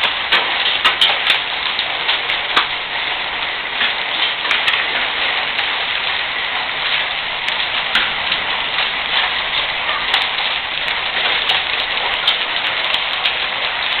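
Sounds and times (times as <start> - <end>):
rain and hail falling: 0.0 - 14.0
sharp hail ticks: 0.0 - 14.0.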